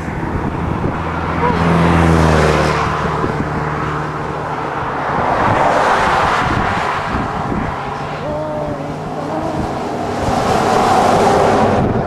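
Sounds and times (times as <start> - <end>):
highway traffic passing: 0.0 - 12.0
tyre and road noise: 0.0 - 12.0
vehicle engine hum: 0.0 - 12.0.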